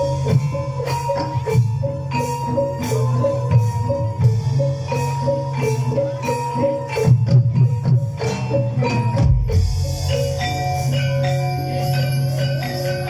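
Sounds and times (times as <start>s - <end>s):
metallophones and gongs melody: 0.0s - 13.0s.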